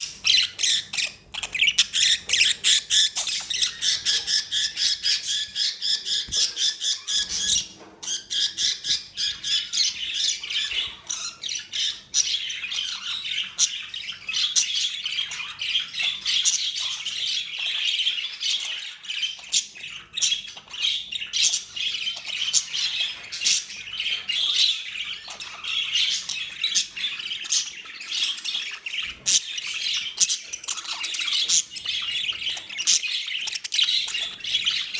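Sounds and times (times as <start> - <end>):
budgerigars squawking and chattering: 0.0 - 34.9.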